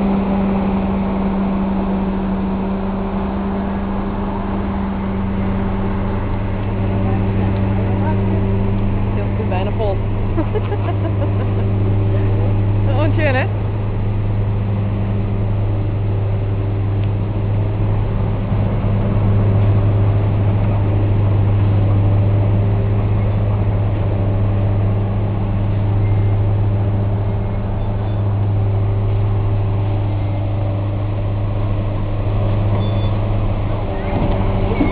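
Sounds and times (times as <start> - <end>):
low engine drone: 0.0 - 34.9
train wagons rolling on rails: 0.0 - 34.9.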